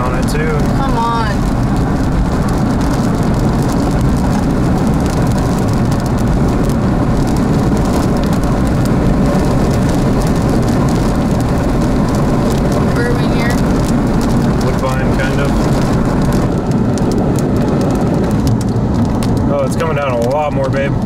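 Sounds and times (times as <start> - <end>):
road and wind rumble in vehicle: 0.0 - 21.0.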